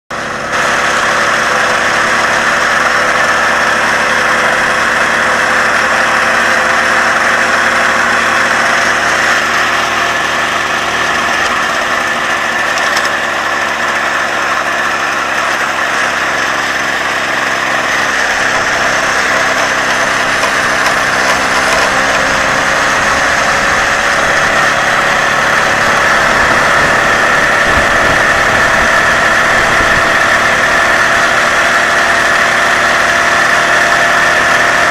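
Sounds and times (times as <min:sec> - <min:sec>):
moped engine running: 0:00.1 - 0:34.9.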